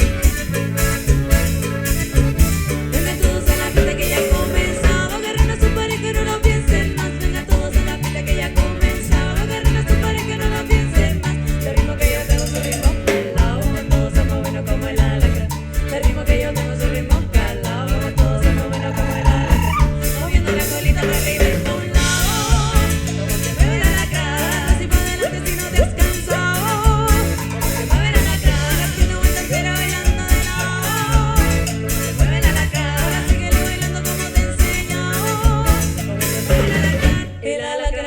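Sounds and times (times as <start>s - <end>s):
drum kit: 0.0s - 37.4s
accordion: 0.0s - 38.0s
electric bass: 0.0s - 38.0s
guitar: 0.0s - 38.0s.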